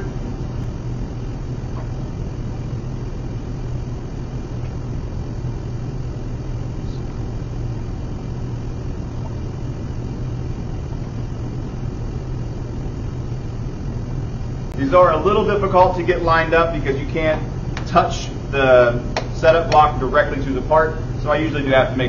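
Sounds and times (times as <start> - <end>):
low workshop hum: 0.0 - 22.0.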